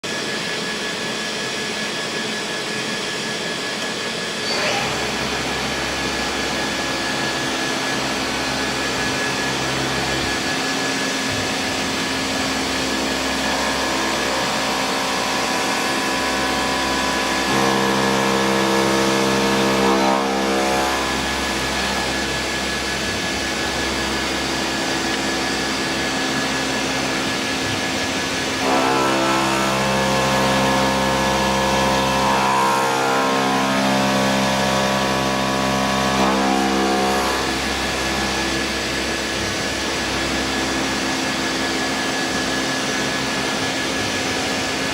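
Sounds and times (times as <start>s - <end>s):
machining center whirring: 0.1s - 44.9s.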